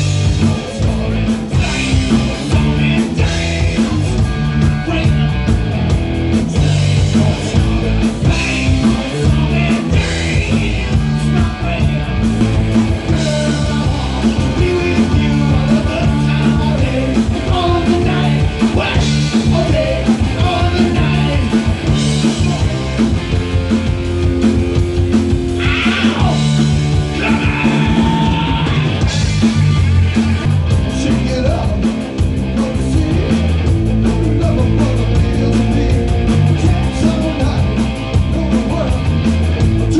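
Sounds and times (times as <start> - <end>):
man singing: 0.0 - 5.6, 6.4 - 23.1, 25.6 - 29.2, 30.9 - 39.9
bass guitar: 0.0 - 39.9
drum kit dance beat: 0.0 - 39.9
electric guitar: 0.0 - 39.9.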